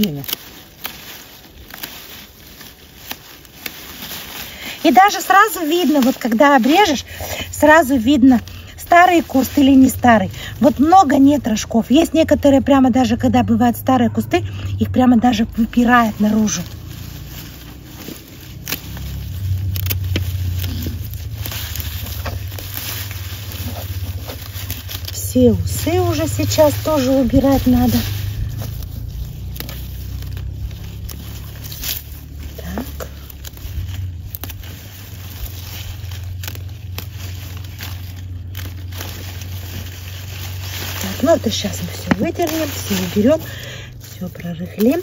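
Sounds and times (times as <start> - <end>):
pruning shears snipping: 0.0 - 11.5, 15.5 - 45.0
foliage rustling: 0.0 - 45.0
low rumble: 0.1 - 45.0.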